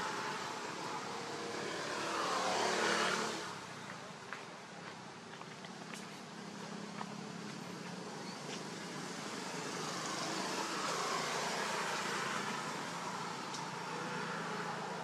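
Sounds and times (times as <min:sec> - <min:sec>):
road vehicle passing: 0:00.0 - 0:04.2, 0:05.6 - 0:15.0.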